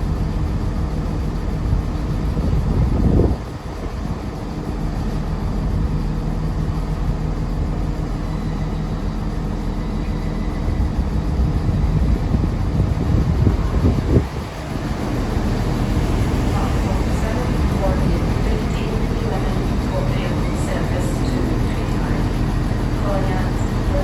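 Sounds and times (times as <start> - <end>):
train engine hum: 0.0 - 24.0.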